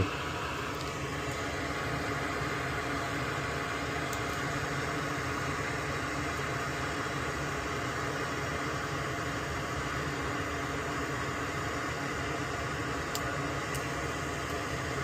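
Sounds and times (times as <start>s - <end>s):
electric fan whooshing: 0.0s - 15.0s.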